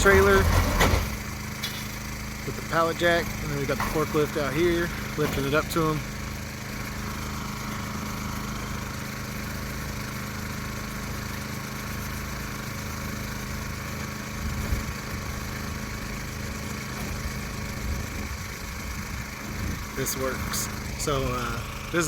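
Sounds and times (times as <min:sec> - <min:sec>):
engine idling: 0:00.0 - 0:22.0
engine knock: 0:00.0 - 0:22.0.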